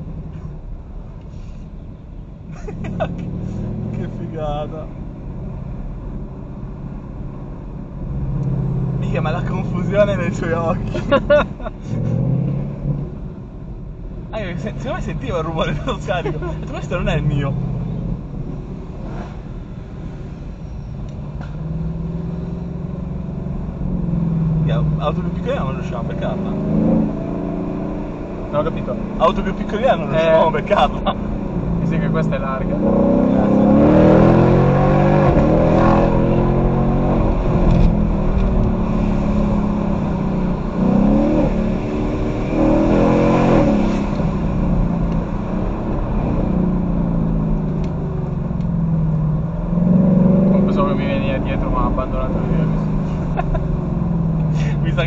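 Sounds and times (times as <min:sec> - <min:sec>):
car engine and exhaust drone: 0:00.0 - 0:55.0
road noise: 0:00.0 - 0:55.0.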